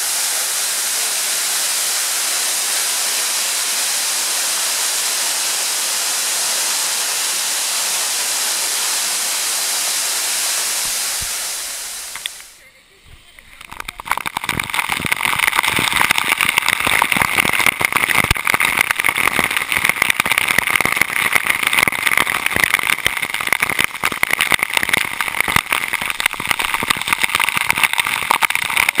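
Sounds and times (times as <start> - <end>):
waterfall rushing: 0.0 - 12.6, 13.6 - 29.0
water spattering on camera: 0.0 - 29.0.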